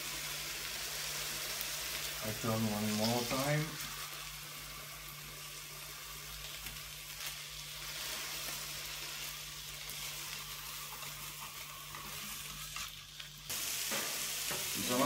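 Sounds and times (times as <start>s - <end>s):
patties sizzling in frying pan: 0.0s - 15.0s.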